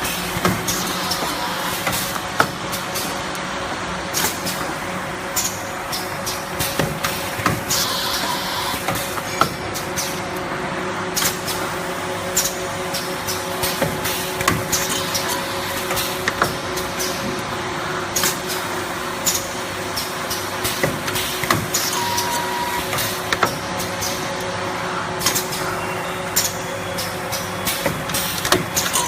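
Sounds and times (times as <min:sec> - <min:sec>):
packing machine hum: 0:00.0 - 0:29.0.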